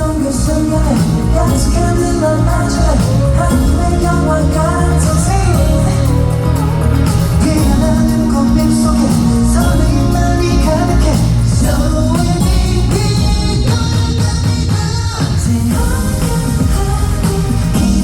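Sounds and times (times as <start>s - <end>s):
group singing live: 0.0s - 18.0s
pop backing track with bass beat: 0.0s - 18.0s.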